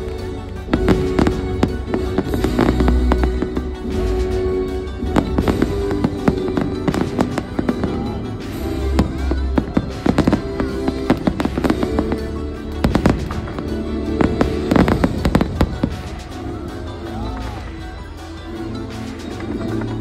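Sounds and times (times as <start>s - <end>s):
fireworks banging and crackling: 0.0s - 17.6s
music playing: 0.0s - 20.0s.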